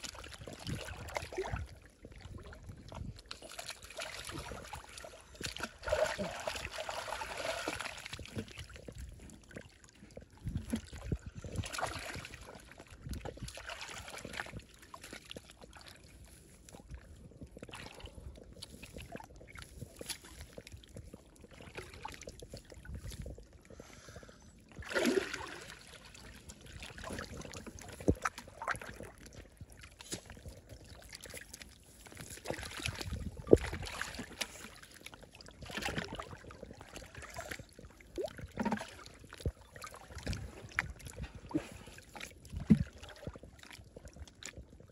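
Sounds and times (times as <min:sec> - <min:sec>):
water sloshing and splashing: 0:00.0 - 0:44.9.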